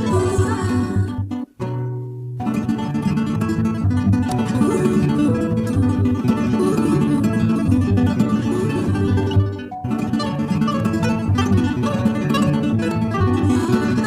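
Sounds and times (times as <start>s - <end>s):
plucked acoustic guitar music: 0.0s - 14.0s.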